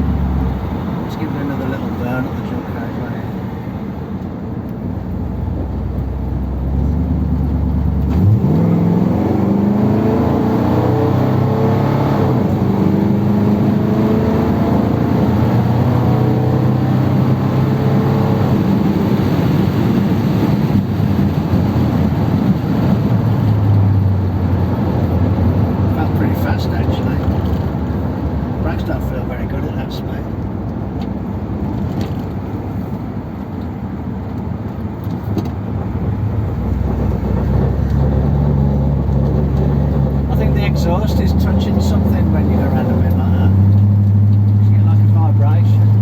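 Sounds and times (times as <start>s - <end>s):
car engine accelerating: 0.0s - 46.0s.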